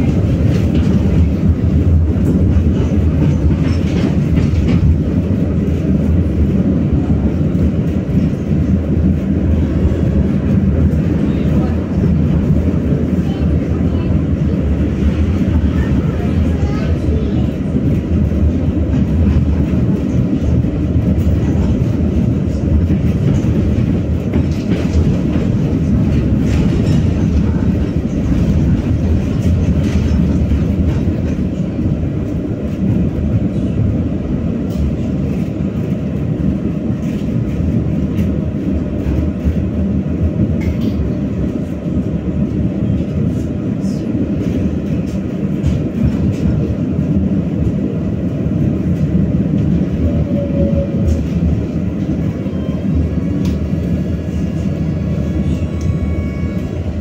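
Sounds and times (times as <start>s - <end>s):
tram wheels rumbling: 0.0s - 57.0s.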